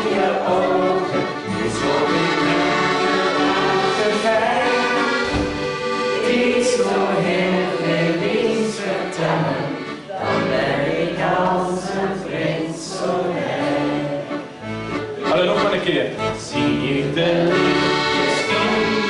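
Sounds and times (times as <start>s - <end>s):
group of voices singing: 0.0s - 15.3s, 16.4s - 19.0s
sing-along song with instruments: 0.0s - 19.0s.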